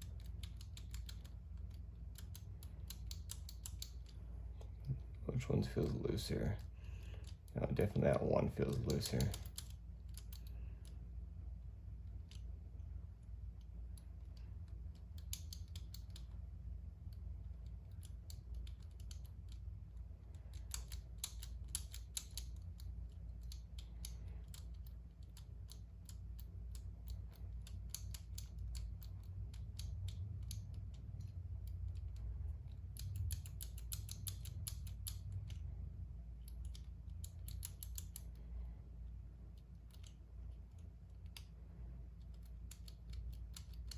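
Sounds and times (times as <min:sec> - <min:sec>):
padlock dials clicking: 0:00.0 - 0:11.0, 0:11.8 - 0:43.9.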